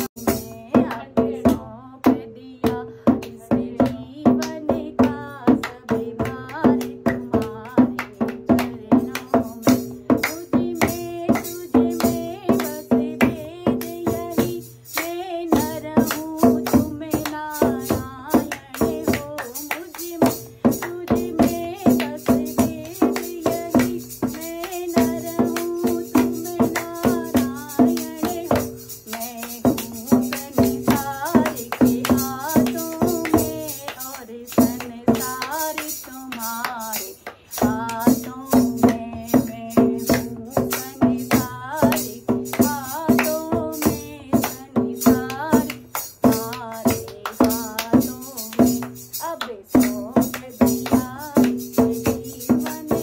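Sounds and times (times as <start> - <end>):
hand drum: 0.0 - 53.0
woman singing: 0.0 - 53.0
hand-clapping: 3.2 - 53.0.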